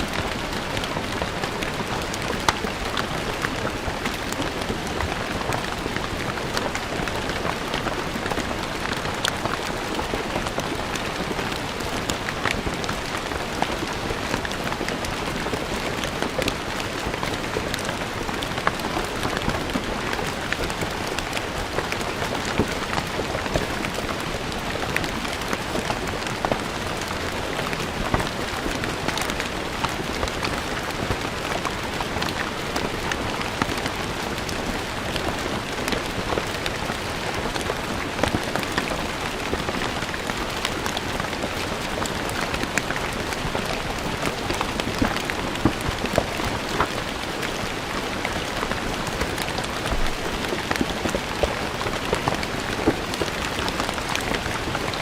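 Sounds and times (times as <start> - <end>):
rain falling on stone paving: 0.0 - 55.0
raindrop splashes and ticks: 0.0 - 55.0.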